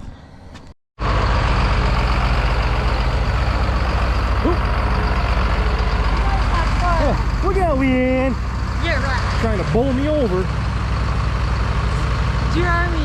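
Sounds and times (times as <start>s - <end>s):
heavy vehicle engine running: 1.0s - 13.0s.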